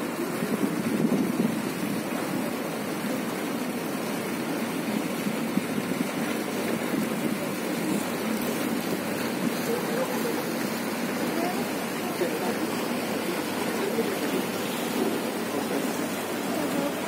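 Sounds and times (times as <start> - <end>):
boat engine running: 0.0 - 17.0
water rushing along hull: 0.0 - 17.0.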